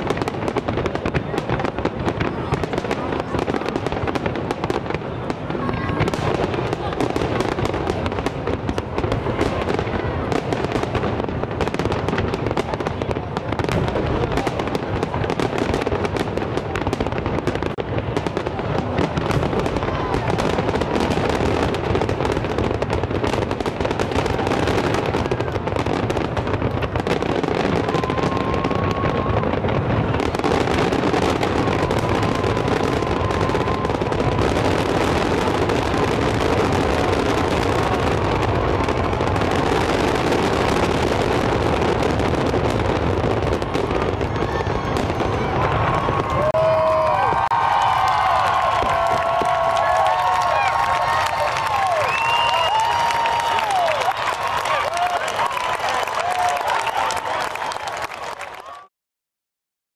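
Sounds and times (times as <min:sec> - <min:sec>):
fireworks bangs and crackle: 0:00.0 - 0:58.9.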